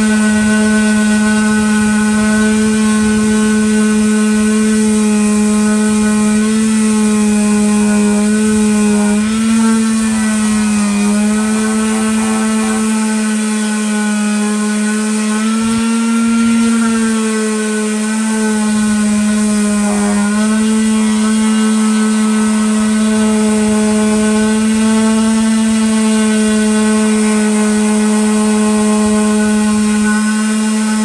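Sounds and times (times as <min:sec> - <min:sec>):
electric sander running: 0:00.0 - 0:31.0.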